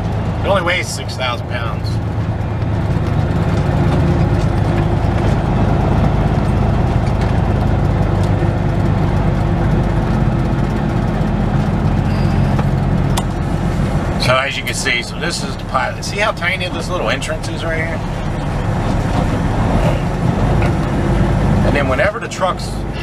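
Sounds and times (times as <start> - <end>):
diesel truck engine from inside cab: 0.0 - 23.0.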